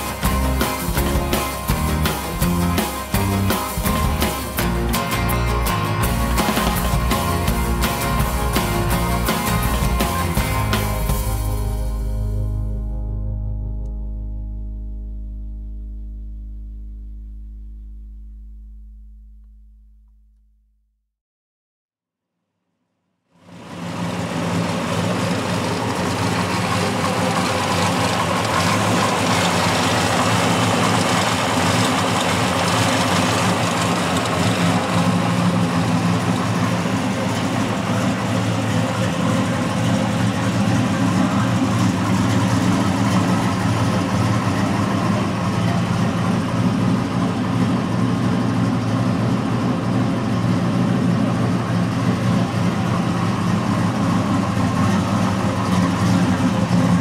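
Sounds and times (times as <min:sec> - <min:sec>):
pickup engine idling: 0:00.0 - 0:12.8, 0:23.5 - 0:57.0.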